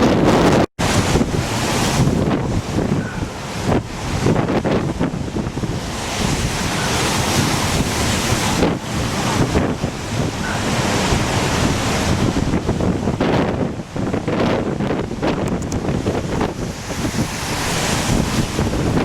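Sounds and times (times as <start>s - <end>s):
surf washing: 0.0s - 19.0s
wind buffeting microphone: 0.0s - 19.0s.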